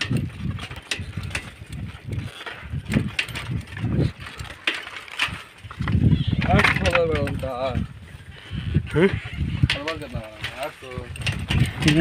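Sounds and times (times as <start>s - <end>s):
bicycle rattling over rough track: 0.0s - 12.0s.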